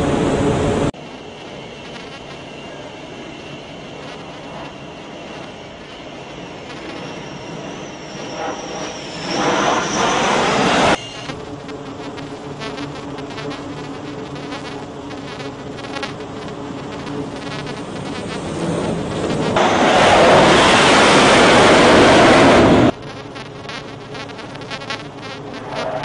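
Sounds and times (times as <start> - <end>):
engine and propeller rush: 0.0 - 1.7, 2.3 - 13.2, 14.2 - 23.0
turboprop aircraft drone: 0.0 - 26.0.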